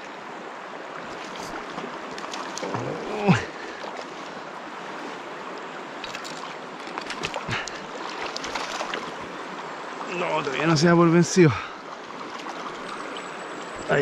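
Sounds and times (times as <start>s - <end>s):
river rushing over a riffle: 0.0s - 14.0s.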